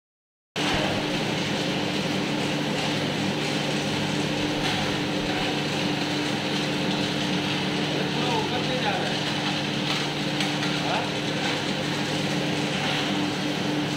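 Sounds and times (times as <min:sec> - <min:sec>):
hot air blower fan running: 0:00.6 - 0:13.9.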